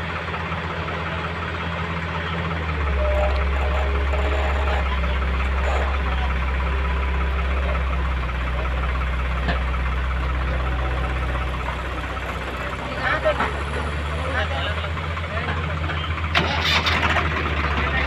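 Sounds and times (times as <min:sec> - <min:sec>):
heavy diesel engine humming: 0:00.0 - 0:18.0.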